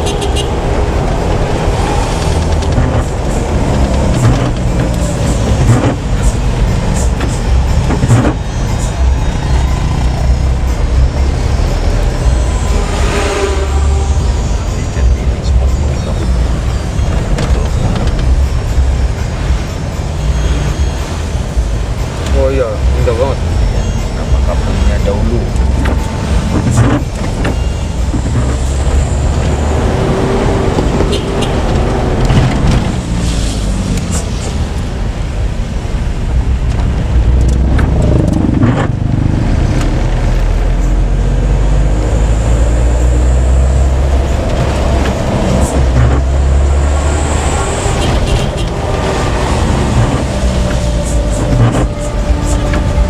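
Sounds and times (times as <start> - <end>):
bus engine rumble: 0.0 - 53.0.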